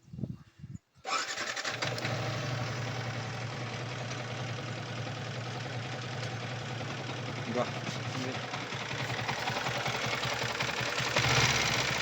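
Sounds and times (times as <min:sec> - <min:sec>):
motorcycle engine starting and idling: 0:01.1 - 0:12.0.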